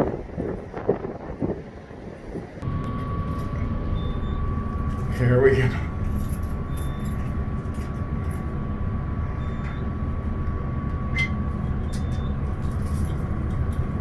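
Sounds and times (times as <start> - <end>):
elevator rumbling: 0.0 - 14.0
faint whine: 2.4 - 14.0.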